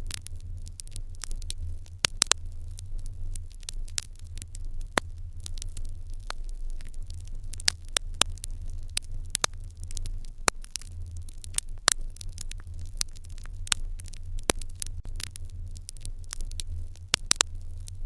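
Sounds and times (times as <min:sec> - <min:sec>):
fire crackling in hearth: 0:00.0 - 0:18.0.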